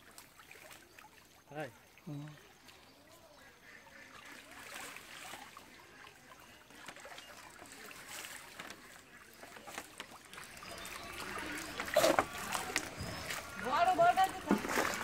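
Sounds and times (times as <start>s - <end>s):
water trickling through fish net: 0.0s - 15.0s.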